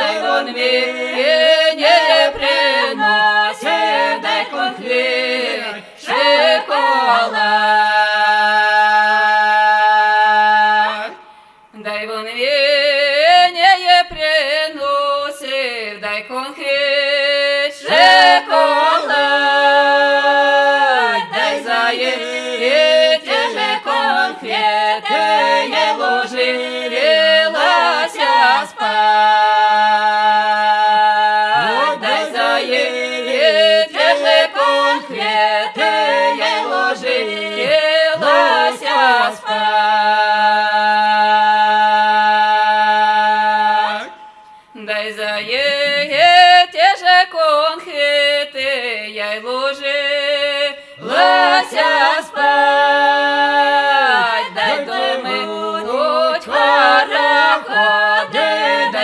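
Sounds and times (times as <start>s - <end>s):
people singing a cappella harmony: 0.0s - 59.0s.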